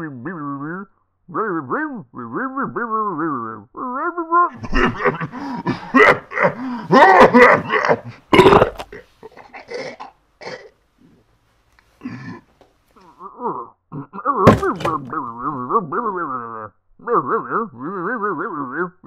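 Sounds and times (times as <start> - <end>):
man's wordless vocal outburst: 0.0 - 10.7, 12.0 - 19.0.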